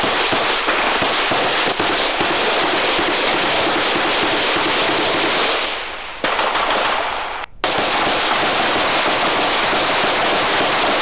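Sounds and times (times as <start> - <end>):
automatic gunfire: 0.0 - 11.0.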